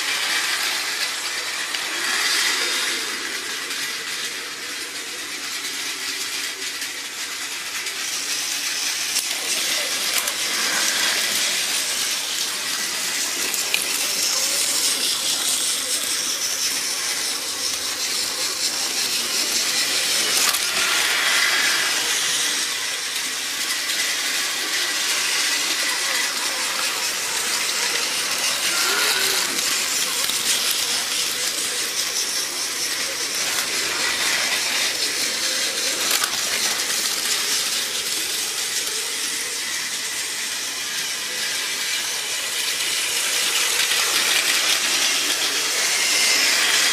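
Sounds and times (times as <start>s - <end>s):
toy train wheels rattling on track: 0.0s - 46.9s
whirr of small motors: 0.0s - 46.9s.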